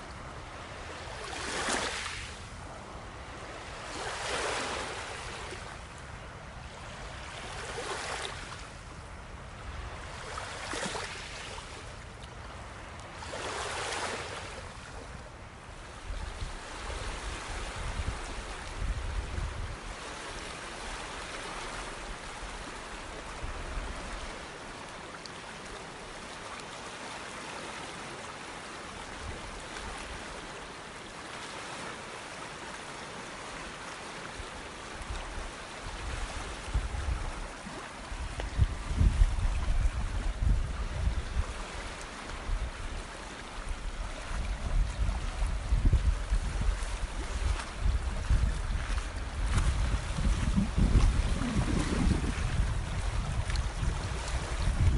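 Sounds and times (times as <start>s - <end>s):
wind rumbling on microphone: 0.0s - 24.8s, 34.4s - 54.9s
waves breaking on shore: 0.0s - 54.9s.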